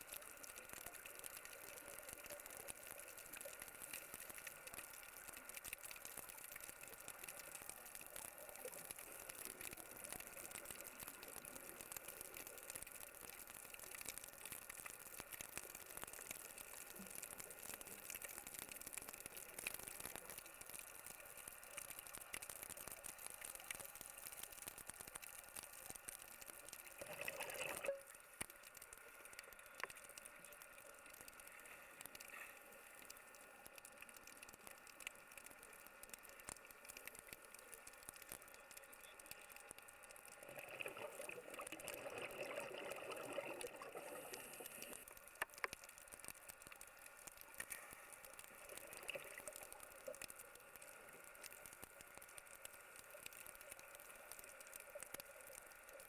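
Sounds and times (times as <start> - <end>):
underwater hiss and bubbling: 0.0 - 56.0.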